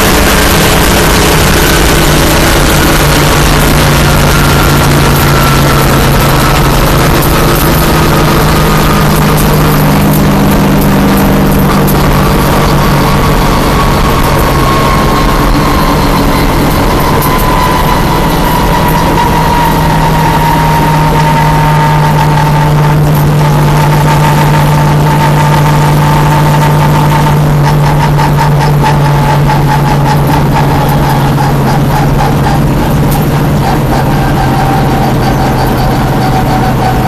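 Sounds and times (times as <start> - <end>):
high engine whine: 0.0 - 37.0
race car engine running: 0.0 - 37.0.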